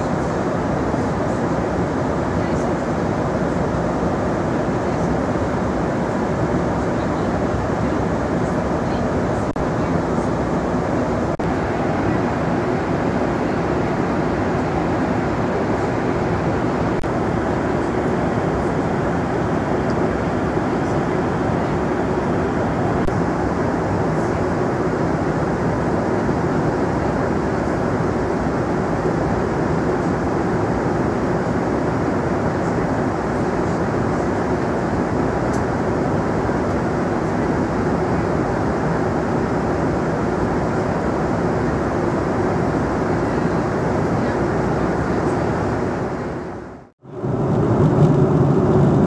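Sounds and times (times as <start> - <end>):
airplane cabin noise: 0.0 - 49.0.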